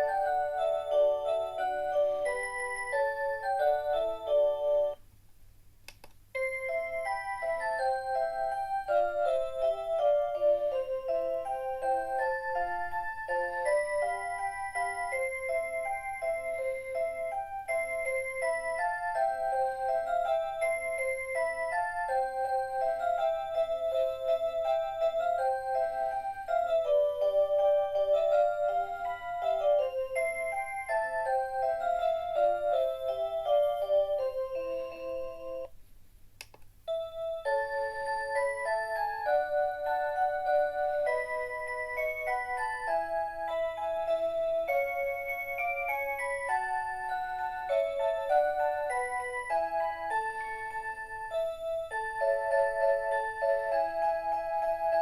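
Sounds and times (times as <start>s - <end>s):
alarm clock chime melody: 0.0s - 5.0s, 6.4s - 35.7s, 36.9s - 55.0s.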